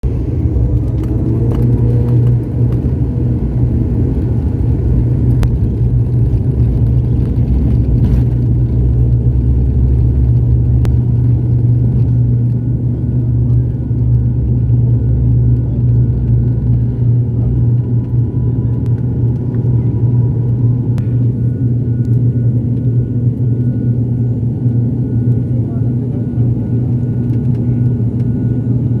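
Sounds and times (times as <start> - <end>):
airplane engines rumbling: 0.0 - 29.0.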